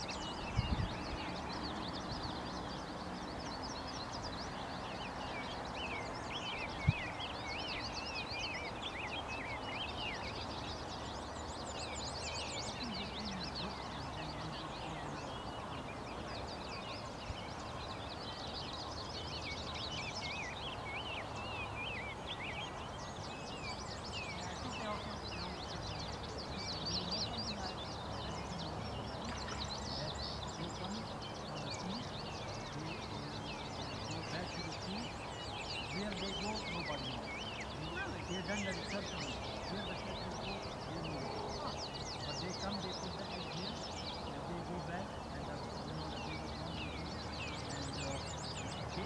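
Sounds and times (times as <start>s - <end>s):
outdoor background hiss: 0.0s - 49.0s
songbirds singing: 0.0s - 49.0s.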